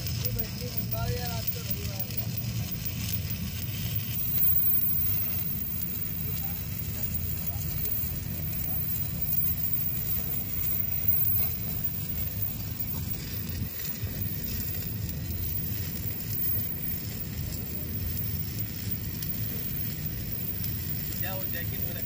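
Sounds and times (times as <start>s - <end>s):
low steady hum: 0.0s - 22.0s
welding arc crackling: 0.0s - 22.0s.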